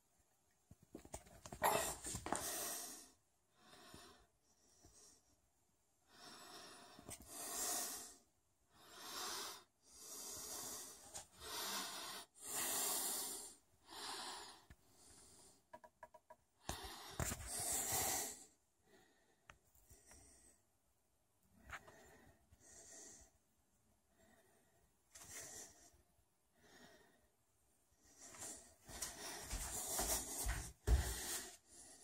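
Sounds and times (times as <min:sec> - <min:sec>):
person breathing close to microphone: 0:01.6 - 0:05.3, 0:06.1 - 0:15.7, 0:16.6 - 0:20.6, 0:21.5 - 0:23.4, 0:24.1 - 0:27.3, 0:28.0 - 0:32.0.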